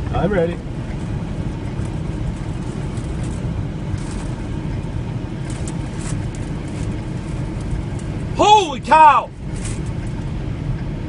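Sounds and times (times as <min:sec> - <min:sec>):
road and engine rumble in cabin: 0:00.0 - 0:11.0.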